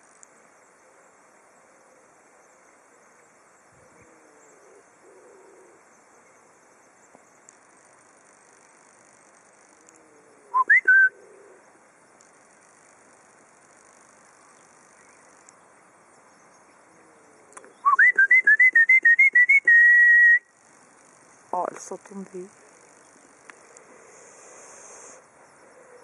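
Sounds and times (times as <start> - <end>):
faint outdoor background: 0.0 - 26.0.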